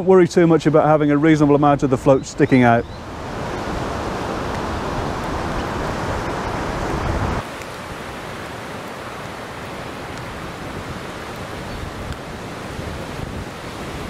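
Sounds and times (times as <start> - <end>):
wind blowing across microphone: 1.1 - 14.0.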